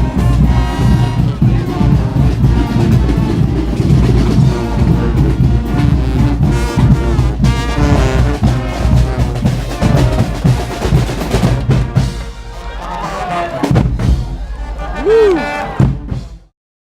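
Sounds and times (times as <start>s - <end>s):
brass band with drums playing: 0.0s - 16.5s.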